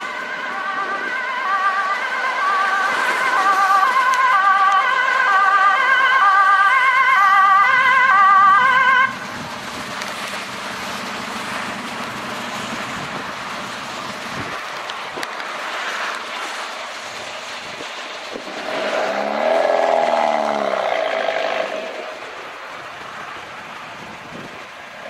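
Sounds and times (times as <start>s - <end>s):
tyres hissing on wet road: 0.0s - 25.0s
car engine: 1.0s - 25.0s.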